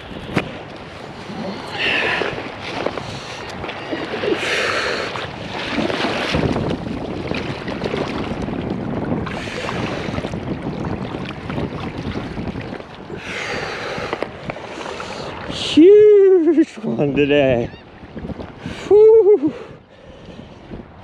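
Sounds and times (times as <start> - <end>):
surf washing around boots: 0.0 - 21.0
wind buffeting microphone: 0.0 - 21.0.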